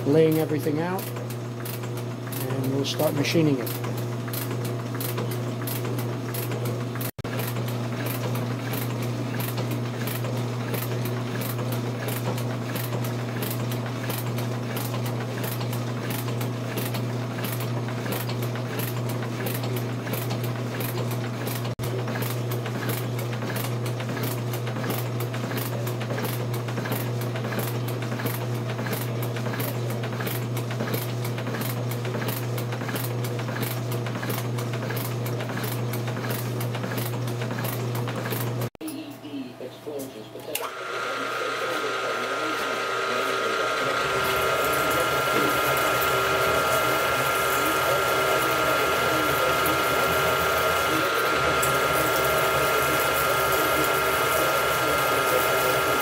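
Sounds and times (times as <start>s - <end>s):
motor hum: 0.0s - 56.0s.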